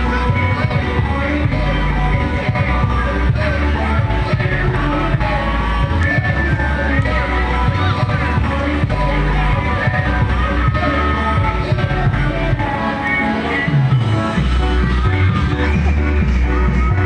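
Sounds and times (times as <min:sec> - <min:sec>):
heavy booming bass: 0:00.0 - 0:12.9, 0:13.7 - 0:17.0
loud music with singing: 0:00.0 - 0:17.0.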